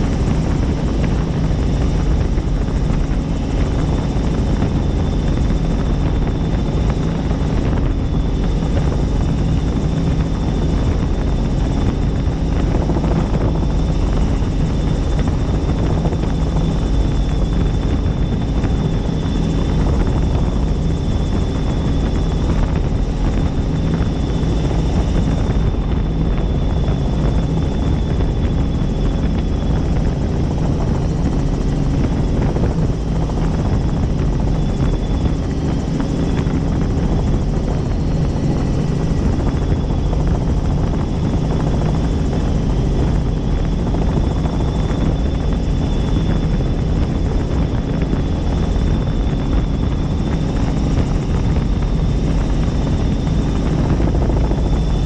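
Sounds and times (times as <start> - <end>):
helicopter rotor and turbine drone: 0.0 - 55.0.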